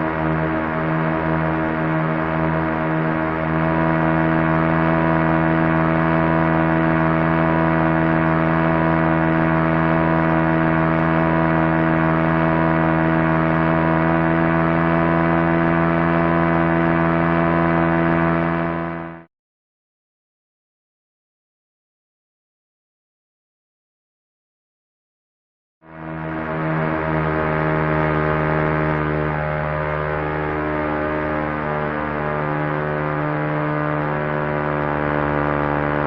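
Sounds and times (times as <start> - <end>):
ambient music drone: 0.0 - 19.2, 25.9 - 36.0.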